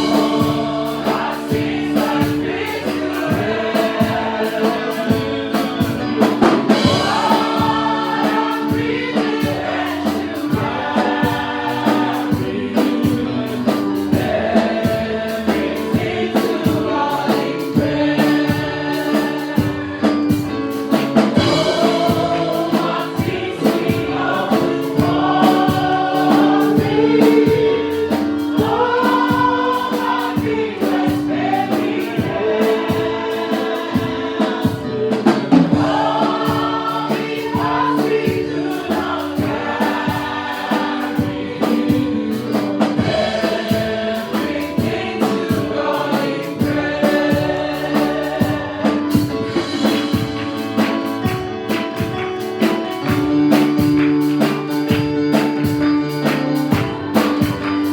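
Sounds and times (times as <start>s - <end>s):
band playing: 0.0s - 57.9s
group of voices singing: 0.0s - 57.9s
steady drum beat: 0.0s - 57.9s.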